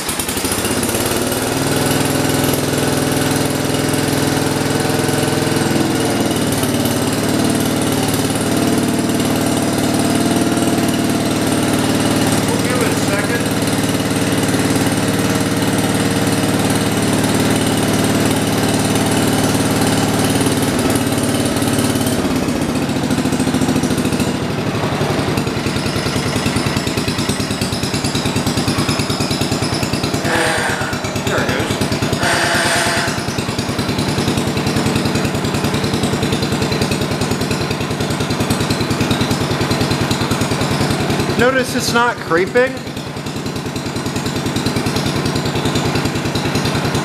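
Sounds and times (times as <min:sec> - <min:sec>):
garden tractor engine running: 0:00.0 - 0:47.0.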